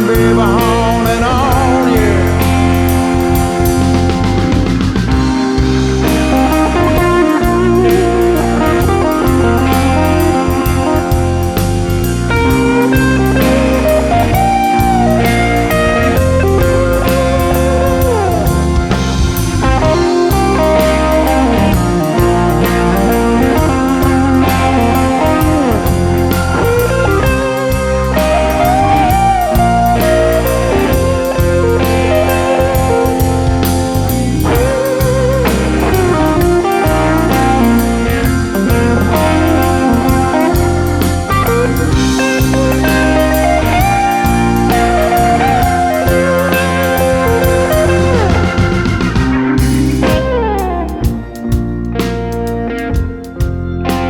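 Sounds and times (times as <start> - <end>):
blues-rock band playing: 0.0 - 54.0
electric lead guitar solo: 0.0 - 54.0.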